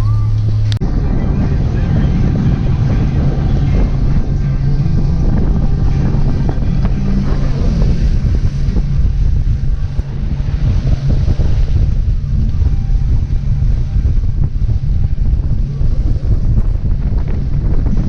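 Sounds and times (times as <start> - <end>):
boat motor running: 0.0 - 18.0
wind buffeting microphone: 0.0 - 18.0.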